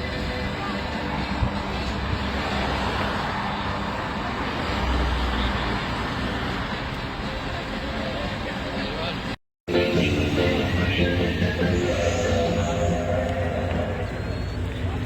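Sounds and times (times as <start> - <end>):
outdoor traffic din: 0.0 - 15.0
vehicle engine rumbling: 0.0 - 15.0.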